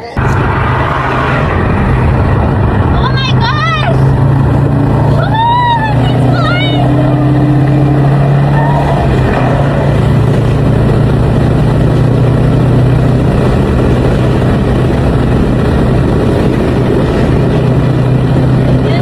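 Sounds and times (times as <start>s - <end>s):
car engine running: 0.0s - 19.0s
road and exhaust noise: 0.0s - 19.0s.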